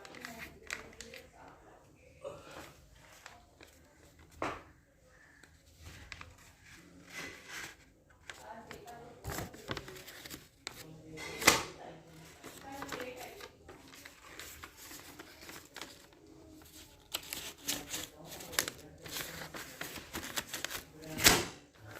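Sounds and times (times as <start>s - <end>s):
paper rustling and crinkling: 0.0s - 1.6s, 2.7s - 11.2s, 11.9s - 21.9s.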